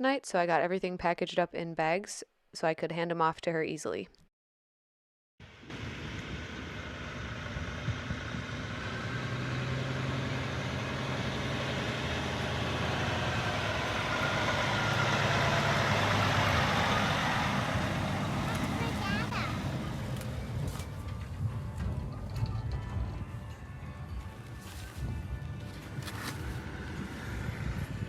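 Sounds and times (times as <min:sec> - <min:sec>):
vehicle engine running: 0:05.4 - 0:28.0.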